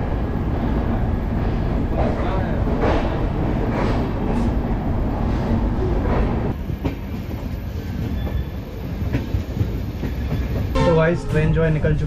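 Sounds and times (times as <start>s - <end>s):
train running gear rumble: 0.0s - 12.0s.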